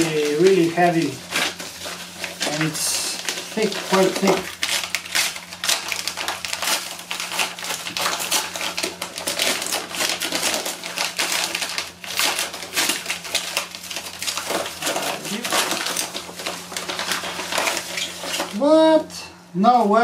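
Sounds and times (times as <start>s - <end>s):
padded envelope being torn open: 0.0s - 19.0s.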